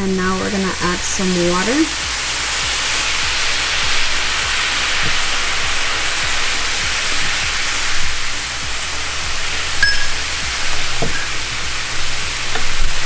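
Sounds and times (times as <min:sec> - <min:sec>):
pan sizzling and sputtering: 0:00.0 - 0:13.0
steam rushing: 0:00.0 - 0:13.0.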